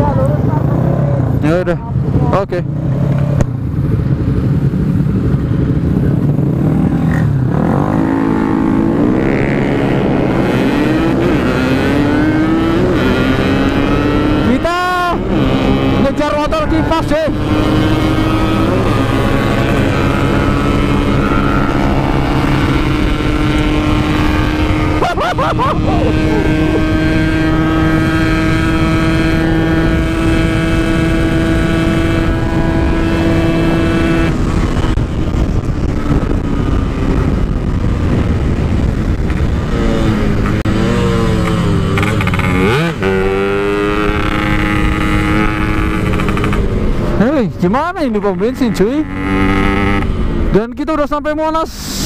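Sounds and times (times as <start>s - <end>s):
two-stroke motorcycle engine: 0.0s - 50.6s.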